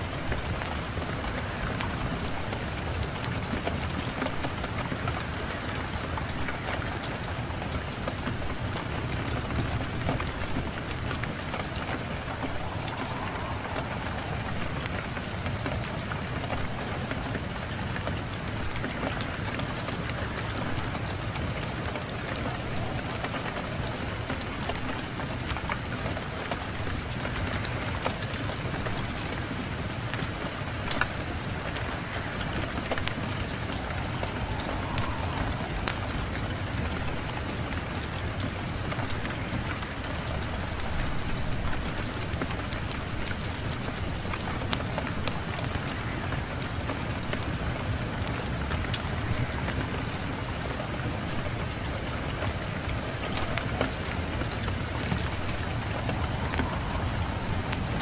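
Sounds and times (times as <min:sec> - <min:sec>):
fire crackling and popping: 0:00.0 - 0:58.0
low wind rumble: 0:00.0 - 0:58.0.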